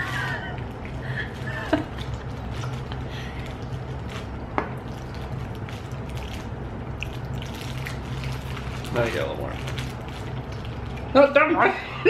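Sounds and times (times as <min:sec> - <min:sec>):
low hum: 0:00.0 - 0:12.0
wet chewing sounds: 0:00.2 - 0:11.2.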